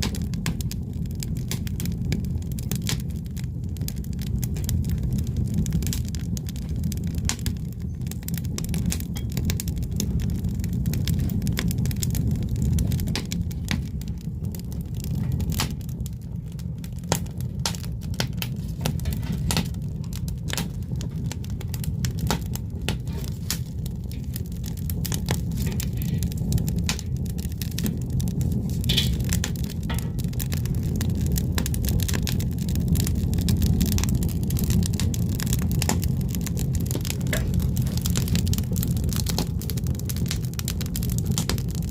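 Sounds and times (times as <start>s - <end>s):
firewood crackling and popping: 0.0s - 41.9s
low rumble: 0.0s - 41.9s.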